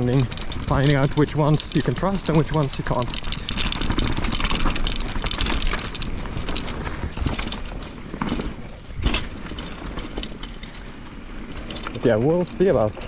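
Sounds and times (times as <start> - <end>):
bike rattling knocks: 0.0 - 13.0
bike tyre noise on trail: 0.0 - 13.0.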